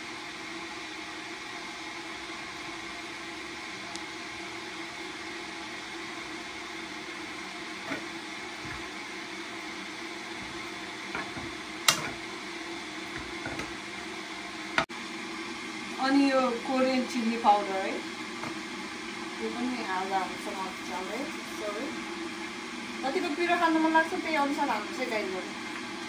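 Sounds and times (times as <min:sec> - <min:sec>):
gas hob hum and hiss: 0:00.0 - 0:26.0.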